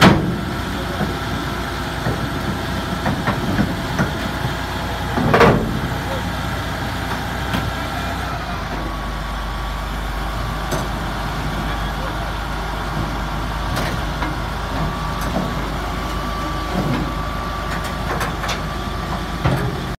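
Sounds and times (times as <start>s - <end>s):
diesel engine running: 0.0s - 20.0s
thin steady whine: 0.8s - 19.6s.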